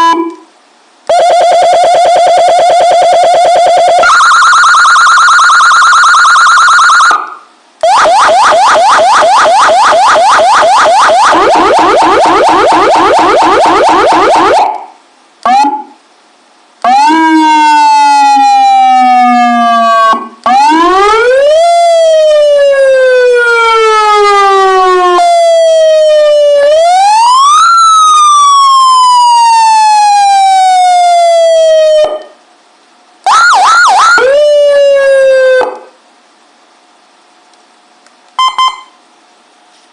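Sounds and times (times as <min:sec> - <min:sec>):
siren wailing: 0:00.0 - 0:00.4, 0:01.1 - 0:16.0, 0:16.8 - 0:32.3, 0:33.3 - 0:36.0
siren yelping: 0:00.0 - 0:00.4, 0:01.1 - 0:16.0, 0:16.8 - 0:32.3, 0:33.3 - 0:36.0.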